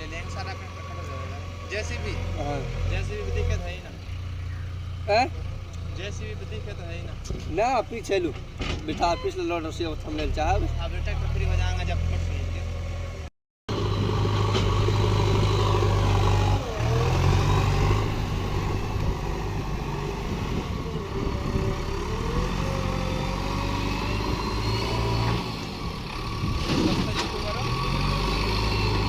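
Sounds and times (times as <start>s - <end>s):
diesel engine running and revving: 0.0s - 29.0s.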